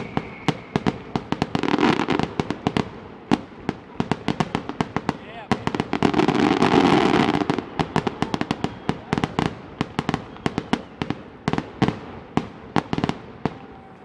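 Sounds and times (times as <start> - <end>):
fireworks popping and crackling: 0.0 - 14.0.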